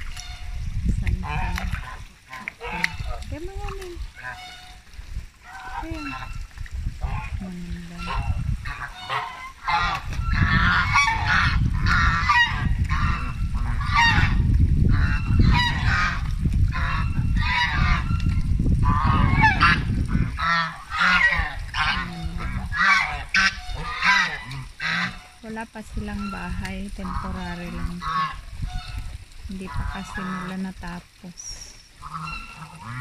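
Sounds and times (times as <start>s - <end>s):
low rumble: 0.0s - 2.2s, 2.8s - 30.2s
geese honking: 0.1s - 0.6s, 1.2s - 6.4s, 7.0s - 25.4s, 26.0s - 30.7s, 31.4s - 33.0s.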